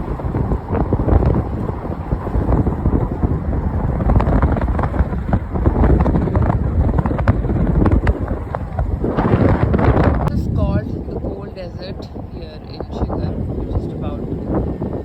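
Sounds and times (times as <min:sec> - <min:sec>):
car driving rumble: 0:00.0 - 0:15.0
wind buffeting microphone: 0:00.0 - 0:15.0.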